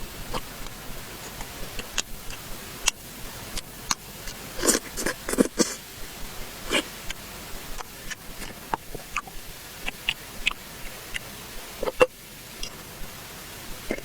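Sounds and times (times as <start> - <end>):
wet chewing and smacking: 0.3 - 5.8, 6.6 - 12.8.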